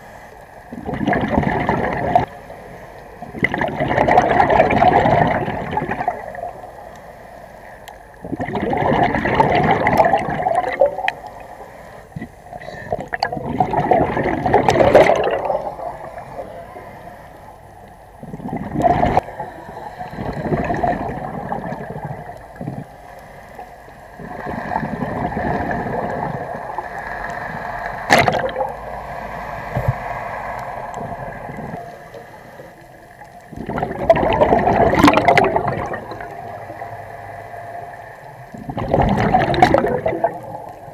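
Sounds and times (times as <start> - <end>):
underwater regulator bubbles gurgling: 0.6 - 7.1, 7.8 - 29.0, 29.6 - 40.9.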